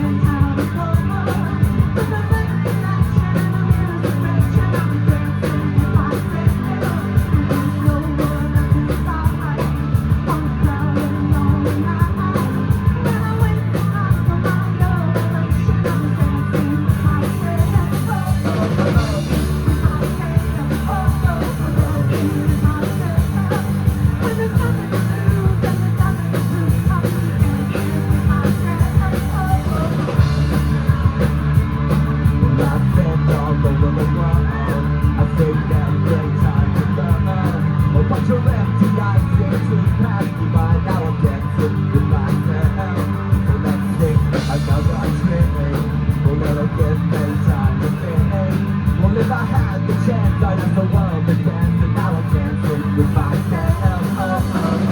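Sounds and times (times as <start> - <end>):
live rock band: 0.0 - 54.9.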